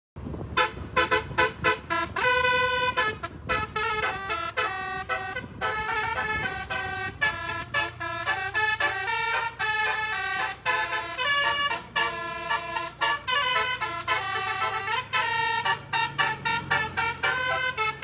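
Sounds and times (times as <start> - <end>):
bus horn playing melody: 0.4 - 18.0.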